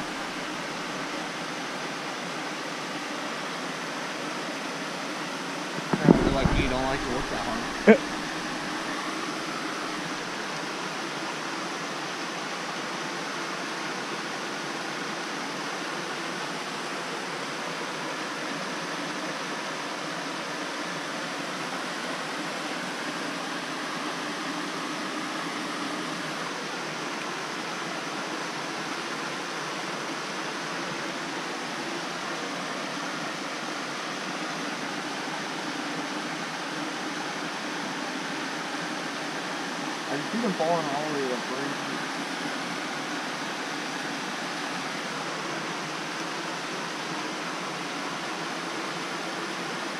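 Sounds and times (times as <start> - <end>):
small waterfall rushing: 0.0 - 49.9.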